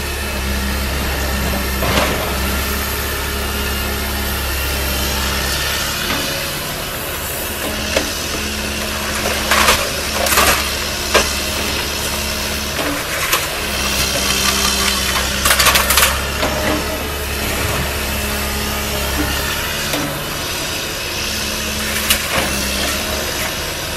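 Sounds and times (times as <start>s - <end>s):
clattering and crunching rubble: 0.0s - 23.9s
excavator diesel engine running: 0.0s - 23.9s.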